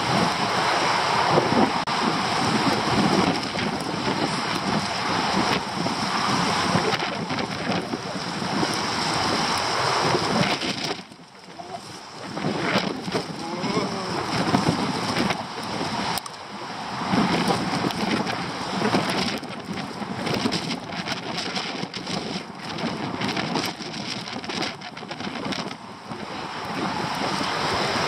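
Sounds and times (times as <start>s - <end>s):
gusty wind buffeting microphone: 0.0s - 28.0s.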